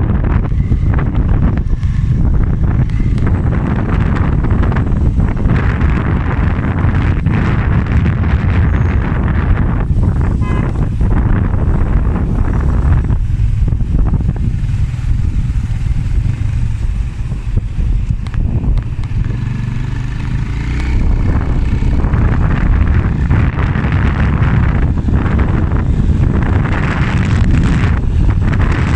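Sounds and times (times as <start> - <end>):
motorbike engine and road rumble: 0.0 - 28.9
wind buffeting microphone: 0.0 - 28.9.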